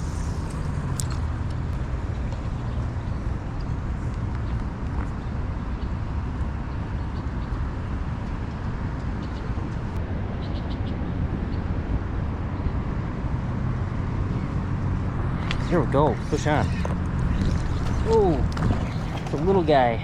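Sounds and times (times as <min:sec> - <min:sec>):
city background rumble: 0:00.0 - 0:20.0.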